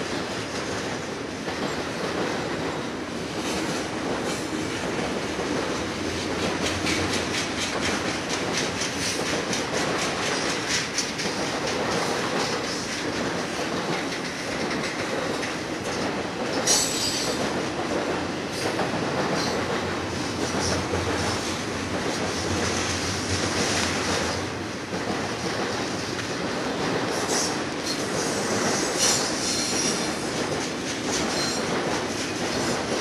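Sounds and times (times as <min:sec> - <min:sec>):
rumble of rolling train cars: 0:00.0 - 0:33.0
train wheels clicking on track: 0:00.0 - 0:33.0.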